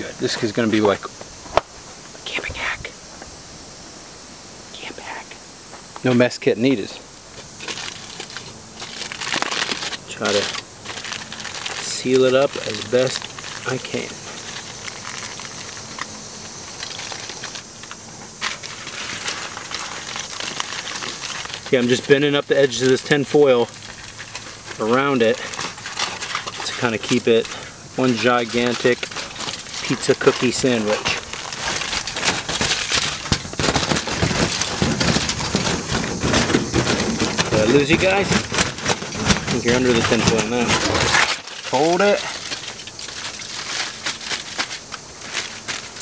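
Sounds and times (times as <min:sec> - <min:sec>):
aluminium foil crinkling: 0:07.3 - 0:46.0.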